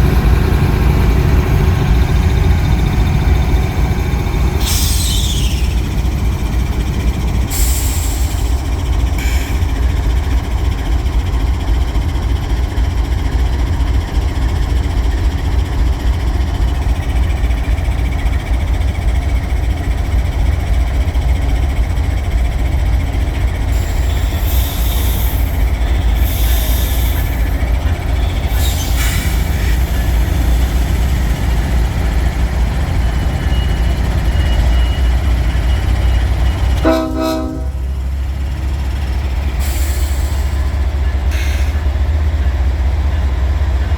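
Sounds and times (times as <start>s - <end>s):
freight train rumbling on rails: 0.0s - 43.9s.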